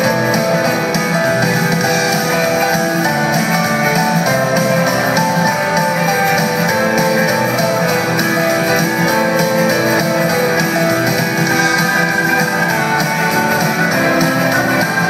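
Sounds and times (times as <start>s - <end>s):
electric guitars: 0.0s - 15.0s
live rock band playing: 0.0s - 15.0s.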